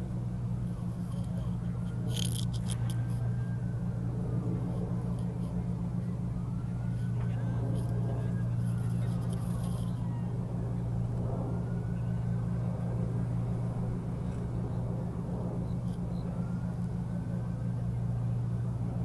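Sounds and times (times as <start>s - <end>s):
faint gliding tones: 0.0s - 19.0s
helicopter engine and rotor drone: 0.0s - 19.0s.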